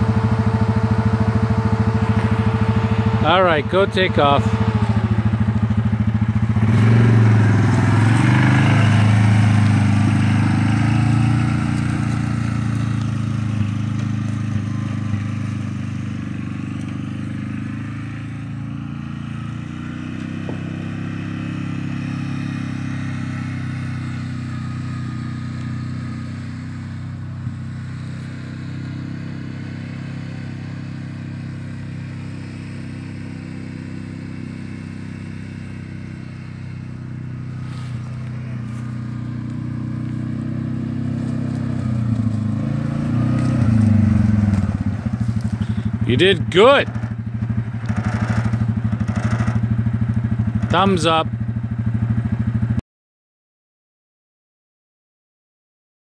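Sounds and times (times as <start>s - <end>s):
utility vehicle engine accelerating: 0.0s - 52.8s.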